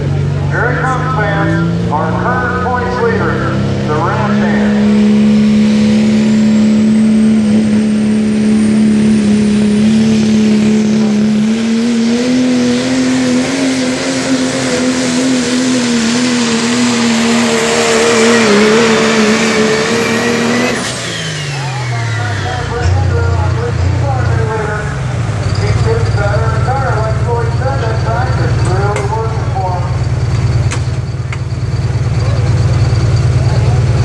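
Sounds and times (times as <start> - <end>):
diesel engine at full throttle: 0.0 - 34.0
turbocharger whistle: 2.4 - 23.5, 25.4 - 34.0.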